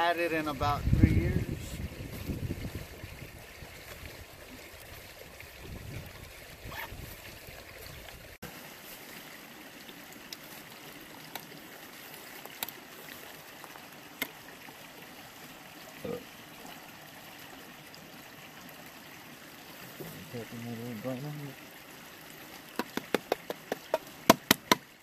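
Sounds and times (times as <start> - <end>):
creek running: 0.0 - 25.0.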